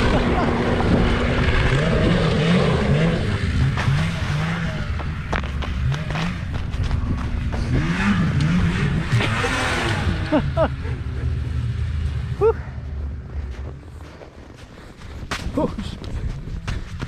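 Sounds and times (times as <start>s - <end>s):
snowmobile engine revving: 0.0s - 14.3s.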